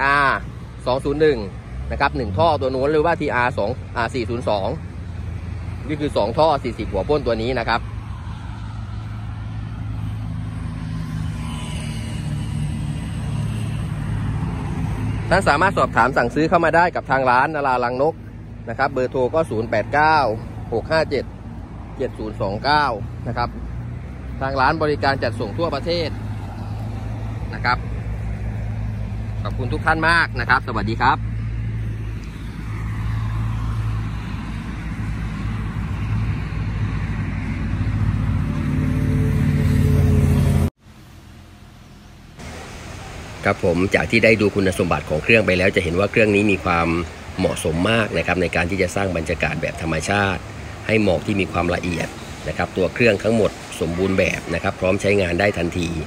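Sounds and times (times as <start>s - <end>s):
road traffic: 0.0s - 56.0s
vehicle engine approaching: 0.0s - 56.0s.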